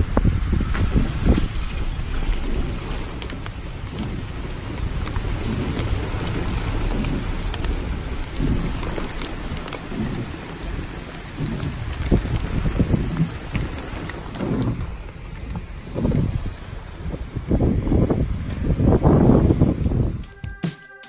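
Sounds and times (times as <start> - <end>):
low rumble: 0.0 - 20.3
rain falling: 0.0 - 20.5
raindrops ticking: 0.0 - 20.6.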